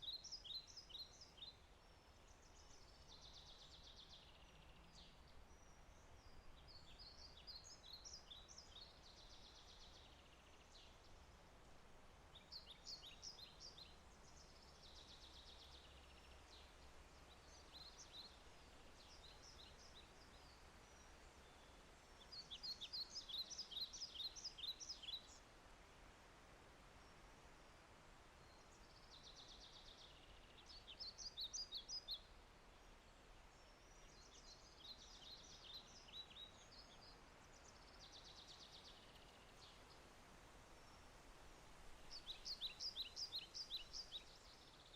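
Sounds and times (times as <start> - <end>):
songbird singing: 0.0 - 25.6, 26.8 - 44.9
faint background hiss: 0.0 - 44.9.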